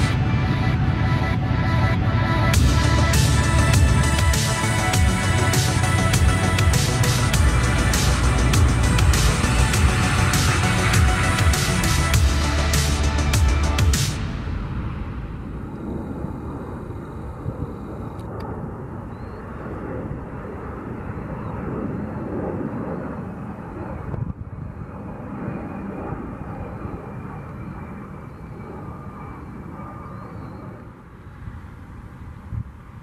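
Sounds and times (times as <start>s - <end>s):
jet engines passing low: 0.0s - 33.0s.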